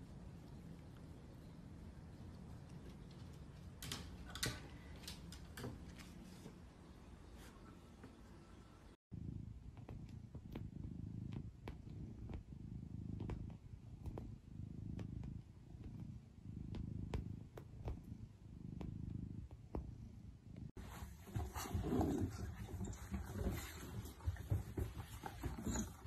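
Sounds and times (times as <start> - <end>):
cat purring: 0.0 - 7.0, 8.0 - 26.0.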